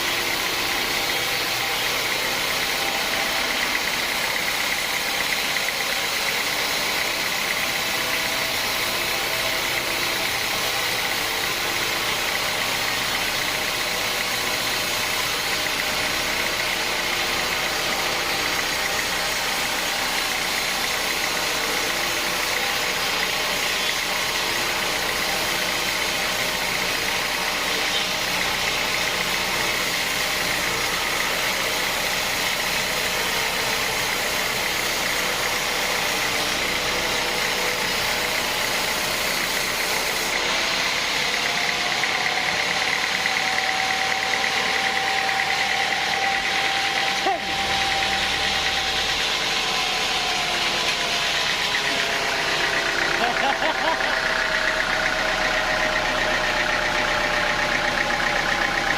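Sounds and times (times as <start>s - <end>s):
sawmill machinery drone: 0.0s - 58.9s
steady high whine: 0.0s - 58.9s.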